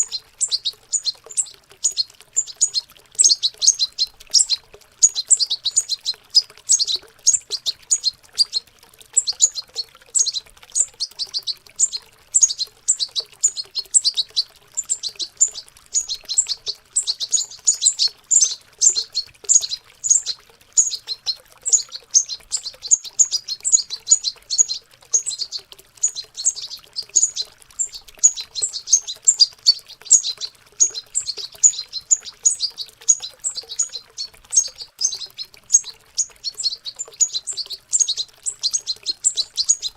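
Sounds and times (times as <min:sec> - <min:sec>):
birds twittering: 0:00.0 - 0:39.9
water trickling faintly: 0:00.0 - 0:39.9.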